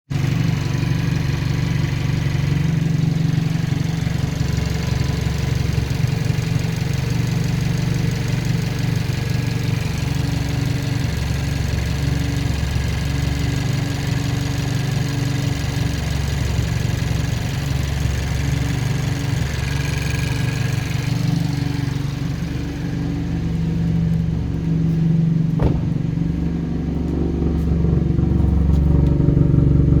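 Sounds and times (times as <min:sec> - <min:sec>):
car engine running: 0:00.1 - 0:30.0.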